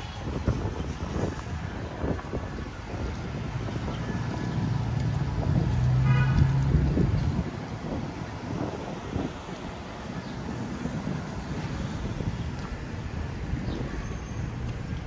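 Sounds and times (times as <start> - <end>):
low engine hum: 0.0 - 15.0
vehicles passing: 0.0 - 15.0.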